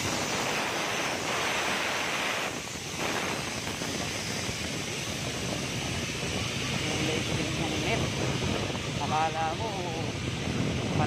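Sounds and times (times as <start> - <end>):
road and engine noise: 0.0 - 11.0
wind rushing over microphone: 0.0 - 11.0.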